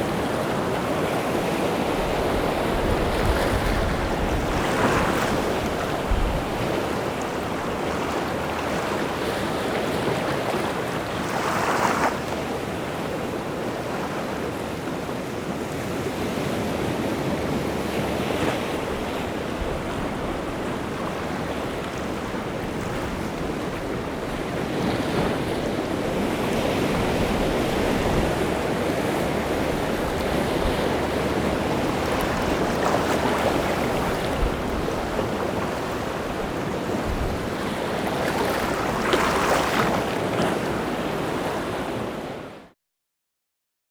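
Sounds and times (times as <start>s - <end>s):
waves breaking: 0.0s - 42.5s
sea surf washing ashore: 0.0s - 42.6s.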